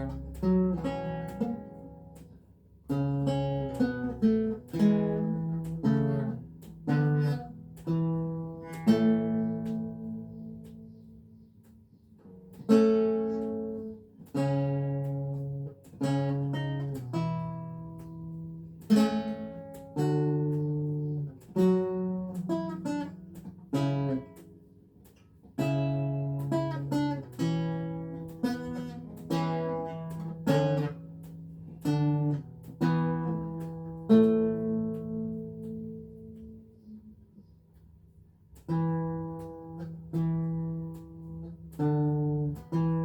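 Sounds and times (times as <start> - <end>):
lute plucked chords: 0.0 - 43.0.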